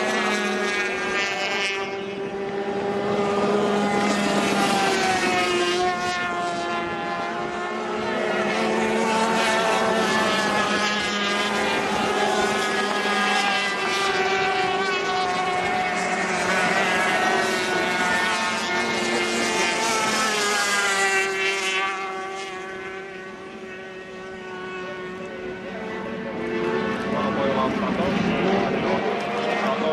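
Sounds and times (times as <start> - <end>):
outboard engines screaming: 0.0 - 29.9.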